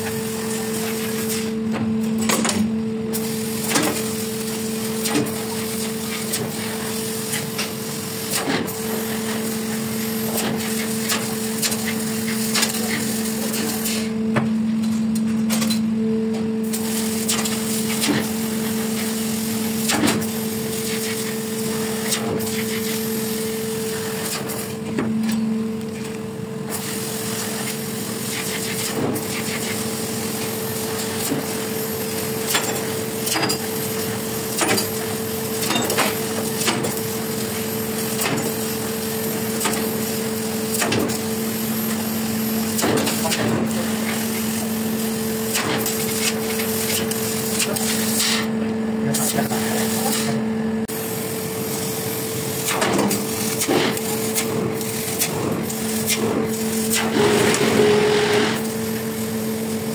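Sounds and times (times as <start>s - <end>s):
laser cutting machine hum: 0.0s - 59.9s.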